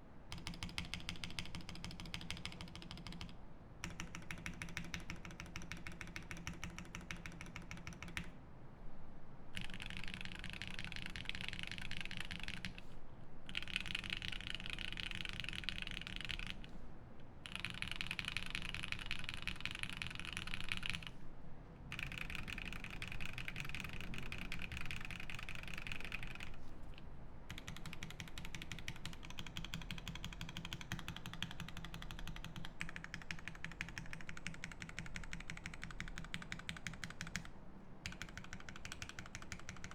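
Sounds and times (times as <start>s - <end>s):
mechanical keyboard typing: 0.3s - 8.3s, 9.6s - 12.8s, 13.5s - 16.7s, 17.4s - 21.1s, 21.9s - 26.6s, 27.5s - 39.9s.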